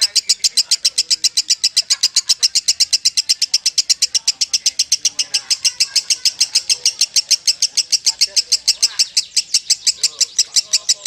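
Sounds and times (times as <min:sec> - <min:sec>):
lovebird chattering: 0:00.0 - 0:11.0.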